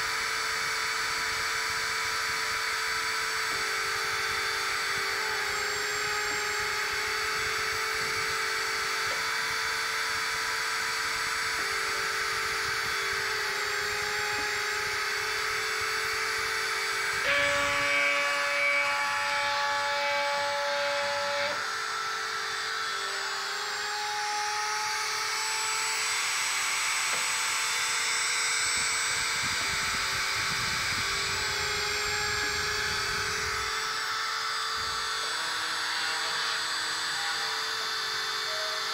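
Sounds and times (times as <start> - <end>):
small electric drill motor: 0.0 - 38.9
whining motor tones: 0.0 - 38.9.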